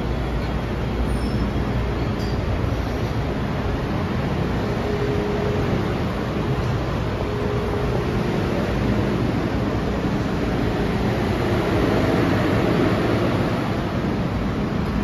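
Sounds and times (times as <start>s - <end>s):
train humming at platform: 0.0s - 15.0s
underground station rumble: 0.0s - 15.0s.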